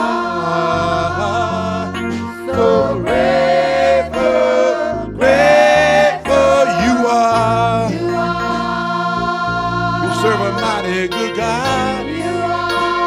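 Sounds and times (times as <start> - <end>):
gospel song with instruments: 0.0 - 13.0.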